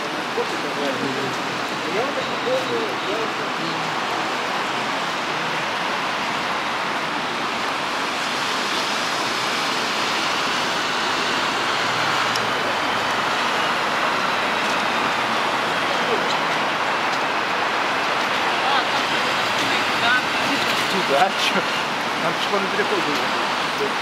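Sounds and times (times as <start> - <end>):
tow truck passing: 0.0 - 24.0
tyres swishing on wet road: 0.0 - 24.0.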